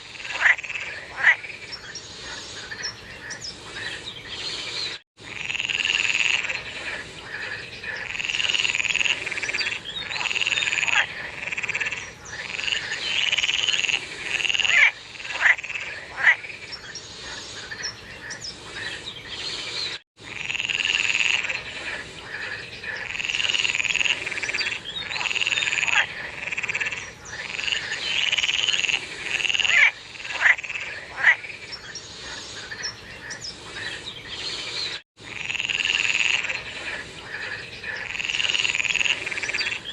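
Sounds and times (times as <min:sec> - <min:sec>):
frogs croaking: 0:00.0 - 0:04.4, 0:05.2 - 0:19.0, 0:20.2 - 0:34.0, 0:35.2 - 0:39.9.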